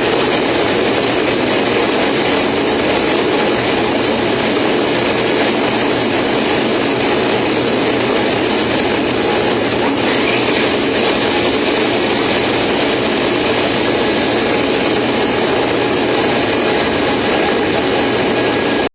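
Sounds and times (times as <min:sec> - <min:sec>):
airliner landing gear roar: 0:00.0 - 0:18.9.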